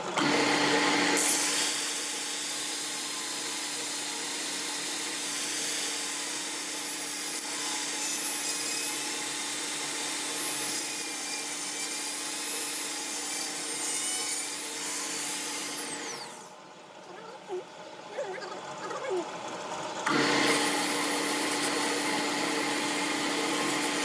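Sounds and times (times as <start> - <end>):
power tool whining: 0.0 - 16.6, 19.9 - 24.0.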